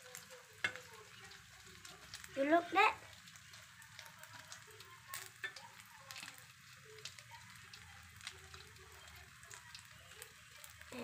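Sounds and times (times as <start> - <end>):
omelette sizzling in oil: 0.0 - 11.0
small pops and crackles: 0.0 - 11.0.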